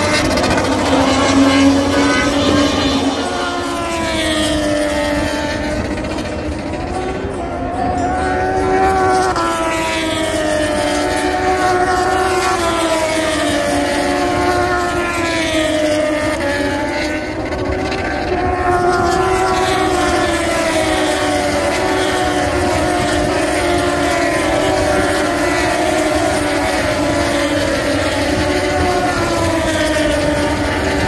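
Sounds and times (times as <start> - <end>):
racing motorcycle engines passing: 0.0 - 31.0.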